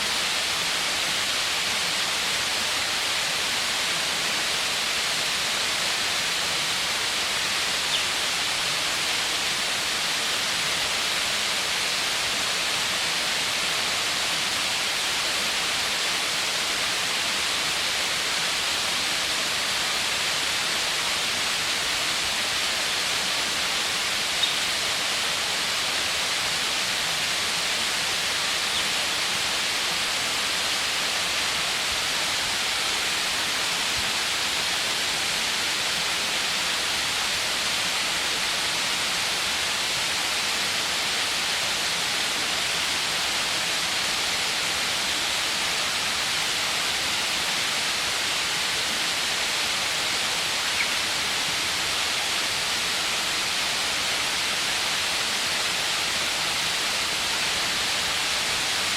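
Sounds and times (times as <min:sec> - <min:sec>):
falling water rushing: 0:00.0 - 0:58.9.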